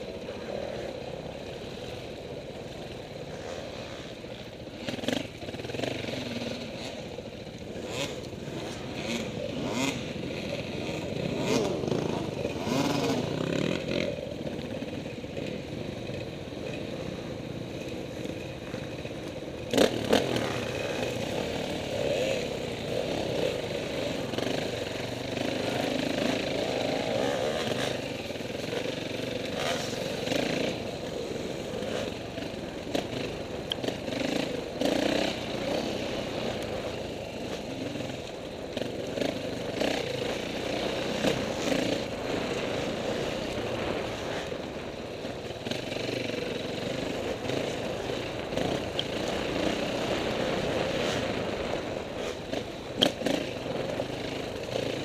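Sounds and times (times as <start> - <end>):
dirt bike engine revving: 0.2 - 55.0.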